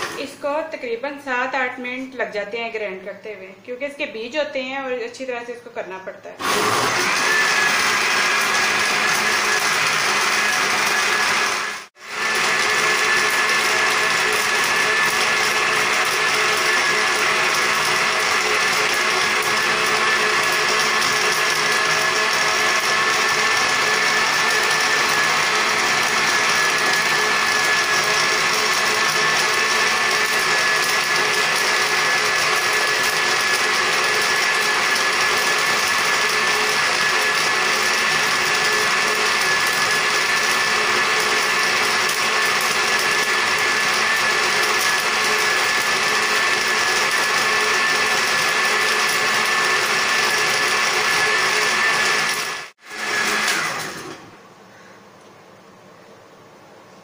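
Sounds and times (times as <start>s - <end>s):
blender motor whining: 0.0s - 0.6s, 6.4s - 54.4s.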